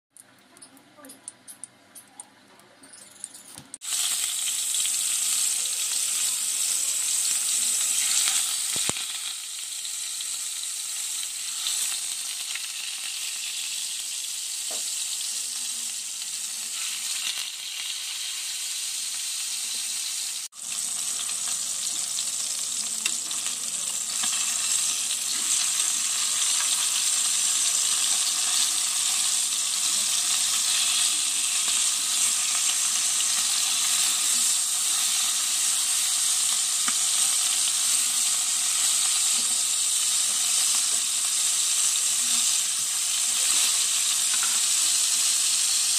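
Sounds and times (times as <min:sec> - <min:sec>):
fish deep-frying in hot oil: 0:03.8 - 0:45.9.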